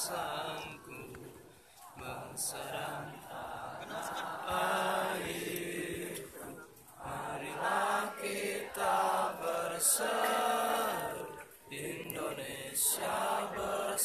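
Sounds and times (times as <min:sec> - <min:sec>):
people chanting in unison: 0:00.0 - 0:14.0.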